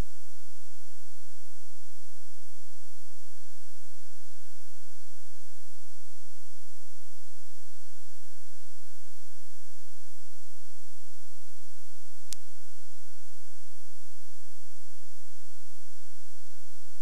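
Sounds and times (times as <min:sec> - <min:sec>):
electrical hum and hiss: 0:00.0 - 0:17.0
thin high whine: 0:00.0 - 0:17.0.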